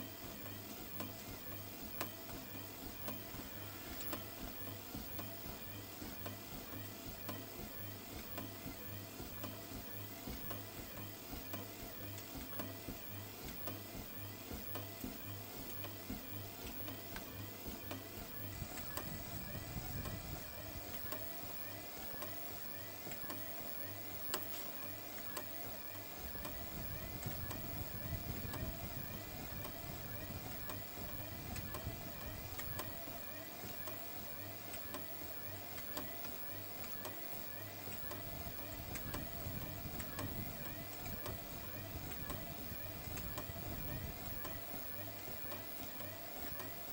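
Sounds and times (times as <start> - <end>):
footsteps on treadmill belt: 0.0 - 46.9
treadmill motor whine and hum: 0.0 - 46.9.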